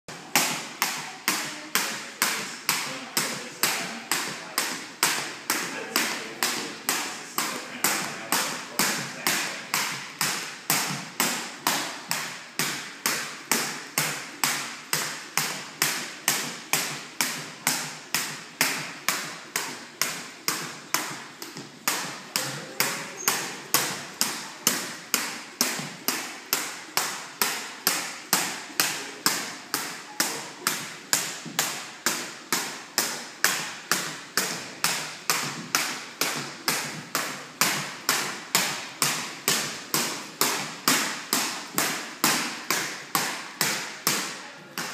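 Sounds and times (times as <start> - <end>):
skipping rope slapping floor: 0.1 - 44.9.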